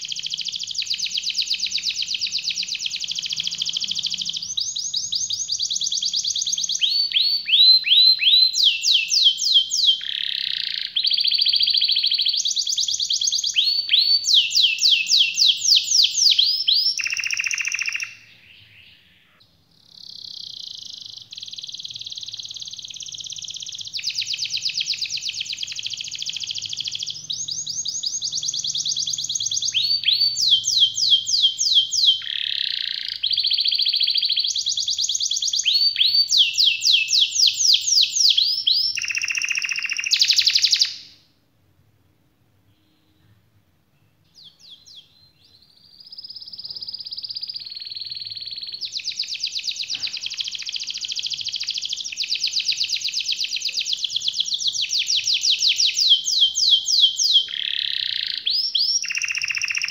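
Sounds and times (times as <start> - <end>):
canary singing trills: 0.0 - 41.2, 44.0 - 59.9.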